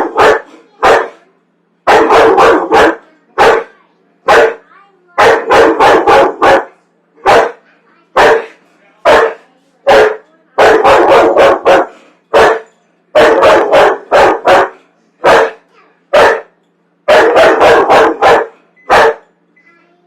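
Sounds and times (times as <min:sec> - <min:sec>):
dog barking loudly: 0:00.0 - 0:01.2, 0:01.8 - 0:03.7, 0:04.3 - 0:04.6, 0:05.2 - 0:07.6, 0:08.2 - 0:16.5, 0:17.1 - 0:19.3.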